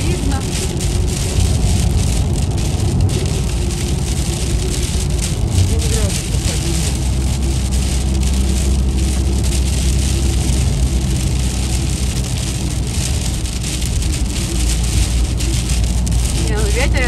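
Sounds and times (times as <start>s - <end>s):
car engine and tyre rumble: 0.0s - 17.0s
rain hissing on windshield: 0.0s - 17.0s.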